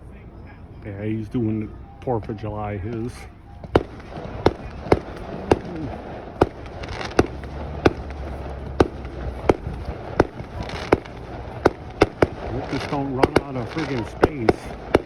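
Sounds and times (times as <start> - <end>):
continuous rumble: 0.0 - 15.0
fireworks bangs: 2.9 - 15.0.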